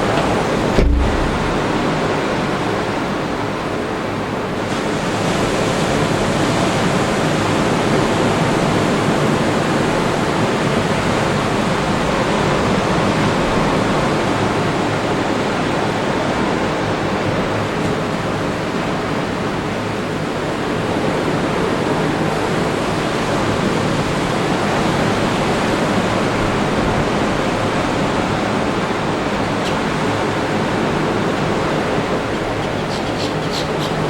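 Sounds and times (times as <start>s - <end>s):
ocean surf washing onto beach: 0.0s - 34.0s.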